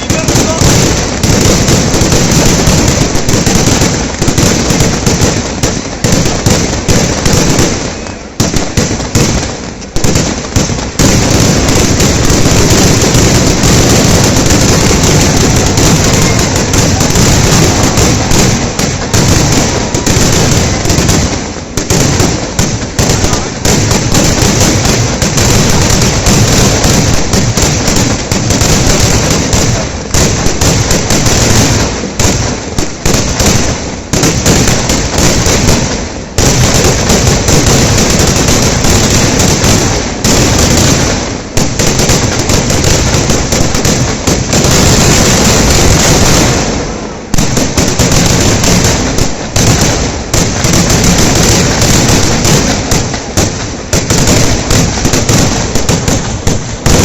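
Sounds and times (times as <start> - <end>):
fireworks explosions: 0.0 - 57.0.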